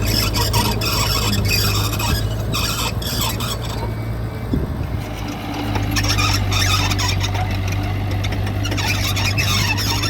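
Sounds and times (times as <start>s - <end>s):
metal scraping: 0.0s - 4.2s, 5.0s - 10.0s
diesel engine running: 0.0s - 10.0s.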